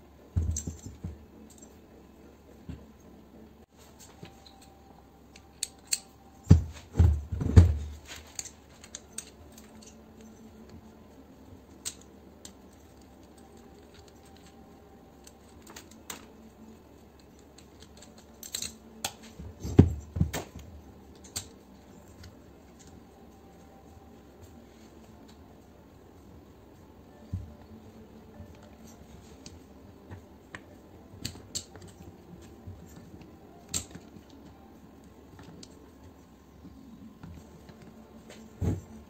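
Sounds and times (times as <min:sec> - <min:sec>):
metal parts and tools clinking: 0:00.3 - 0:02.1, 0:03.8 - 0:24.0, 0:27.1 - 0:39.0.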